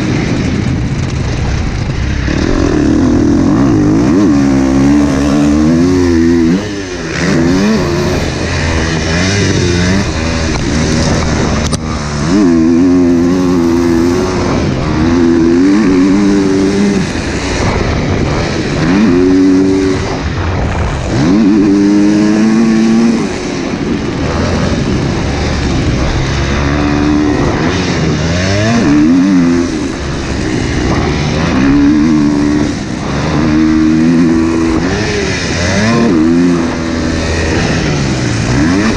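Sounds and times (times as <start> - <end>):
dirt bike engine revving: 0.0 - 38.9
steady rush of noise: 0.0 - 38.9.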